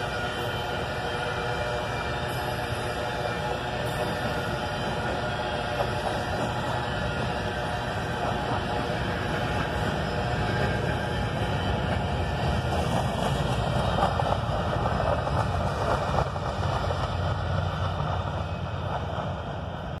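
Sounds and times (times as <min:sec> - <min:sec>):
freight train rolling past: 0:00.0 - 0:20.0.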